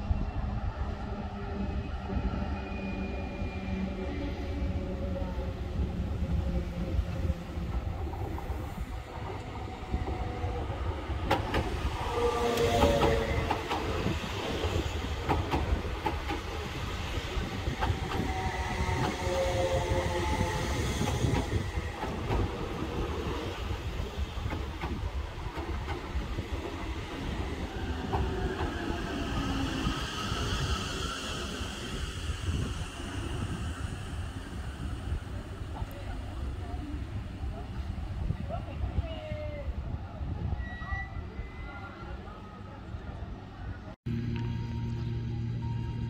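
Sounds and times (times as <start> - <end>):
train rolling rumble: 0.0 - 39.2.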